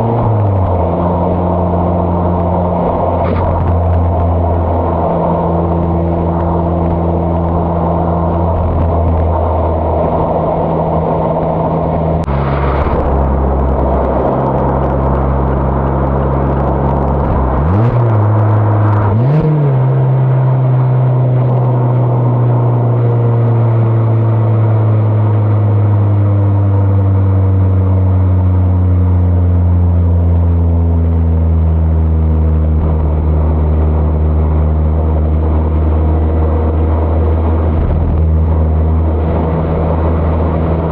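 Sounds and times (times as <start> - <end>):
car engine and exhaust revving: 0.0 - 40.9.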